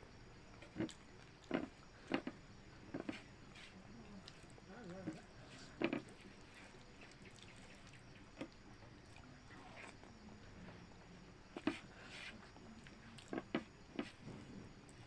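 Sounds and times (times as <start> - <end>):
wet chewing sounds: 0.5 - 10.9, 11.5 - 15.0.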